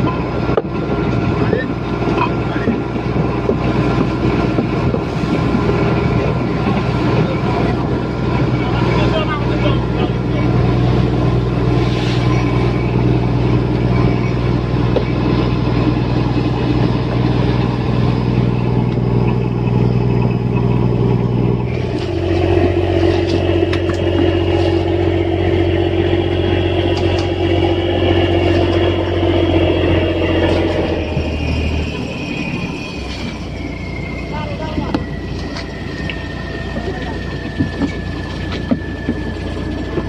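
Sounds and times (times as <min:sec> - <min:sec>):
boat engine running: 0:00.0 - 0:40.0
high whine: 0:00.0 - 0:40.0.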